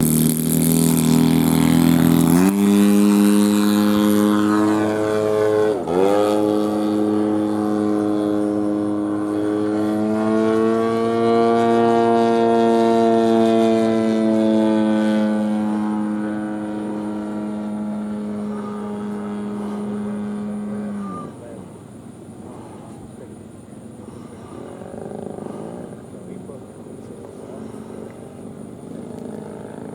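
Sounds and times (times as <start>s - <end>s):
model airplane engine running: 0.0s - 29.9s.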